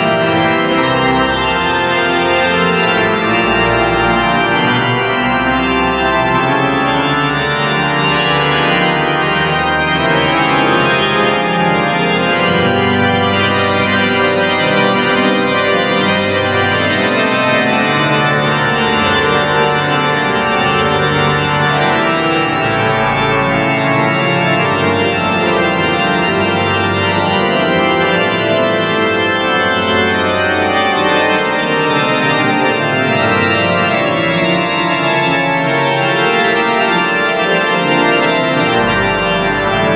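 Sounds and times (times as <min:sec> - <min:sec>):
church organ playing: 0:00.0 - 0:39.9.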